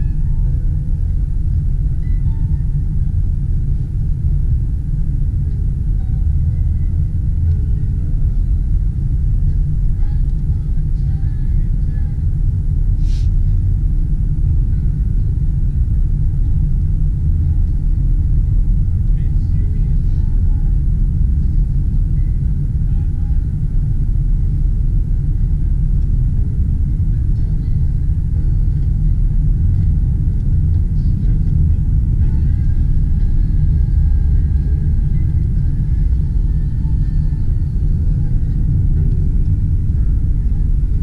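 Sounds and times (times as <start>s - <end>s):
car interior road rumble: 0.0s - 41.0s.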